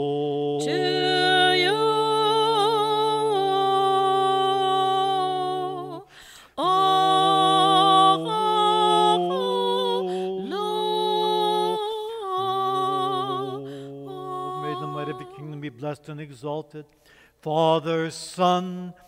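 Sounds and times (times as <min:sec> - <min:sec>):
choir singing in harmony: 0:00.0 - 0:15.6.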